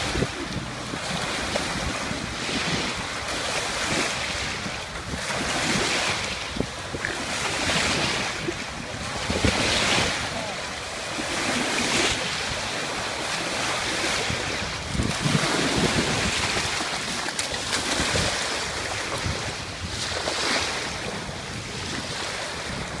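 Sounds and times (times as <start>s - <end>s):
ocean surf breaking: 0.0s - 23.0s
wind gusting on microphone: 0.0s - 23.0s.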